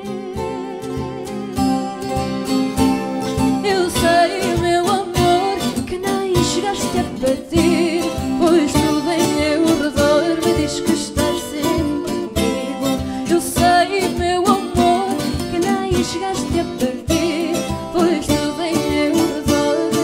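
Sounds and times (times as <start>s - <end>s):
guitars playing: 0.0s - 20.0s
woman singing with vibrato: 0.0s - 20.0s.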